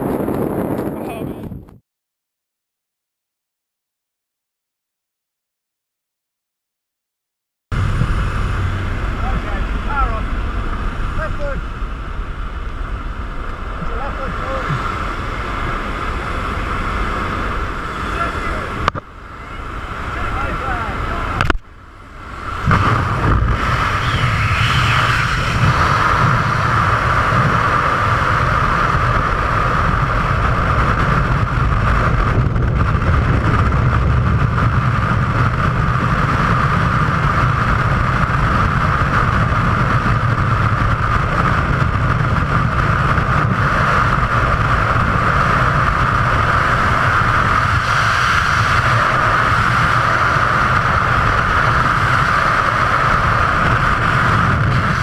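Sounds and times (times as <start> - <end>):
wind rushing over microphone: 0.0 - 1.8, 7.7 - 55.0.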